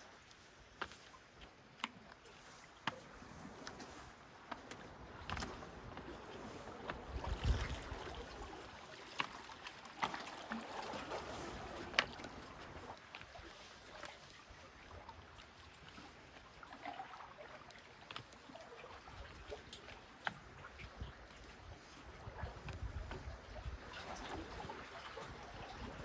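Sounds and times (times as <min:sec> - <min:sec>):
waves lapping on rocky shore: 0:00.0 - 0:26.0.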